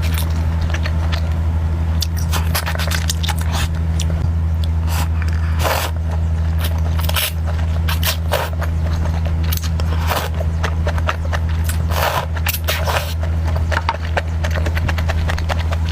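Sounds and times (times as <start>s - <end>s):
food being chewed: 0.0s - 1.4s, 2.0s - 15.9s
low steady hum: 0.0s - 15.9s.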